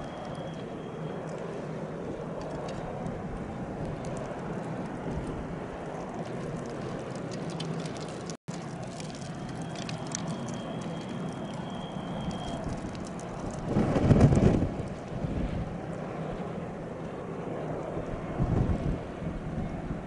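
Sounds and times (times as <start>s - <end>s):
ship engine drone: 0.0s - 20.0s.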